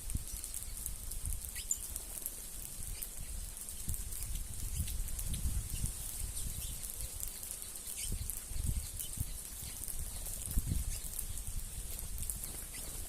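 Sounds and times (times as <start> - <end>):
birds chirping: 0.2 - 11.5, 12.4 - 13.0.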